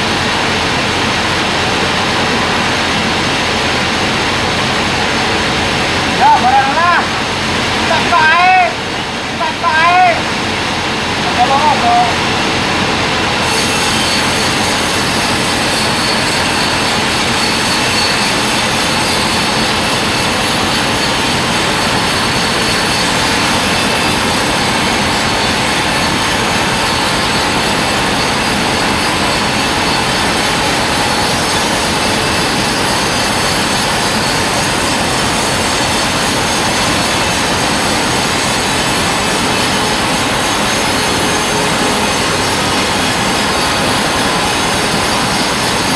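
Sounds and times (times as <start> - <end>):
band sawmill running: 0.0 - 45.9.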